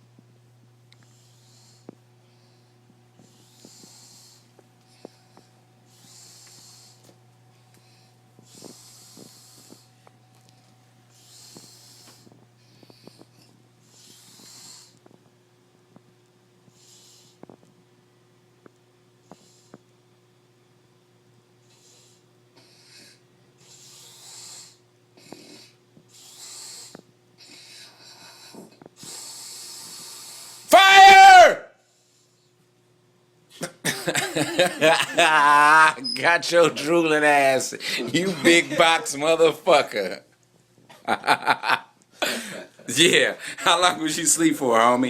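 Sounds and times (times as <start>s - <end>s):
steady low hum: 0.0s - 30.8s, 31.4s - 45.0s.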